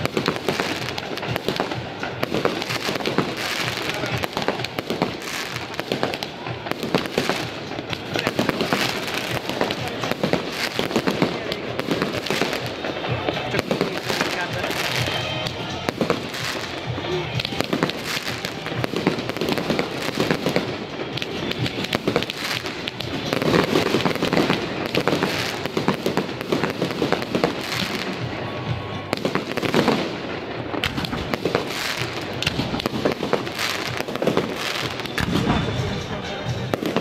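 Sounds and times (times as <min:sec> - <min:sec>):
fireworks bursting with bangs and crackles: 0:00.0 - 0:37.0.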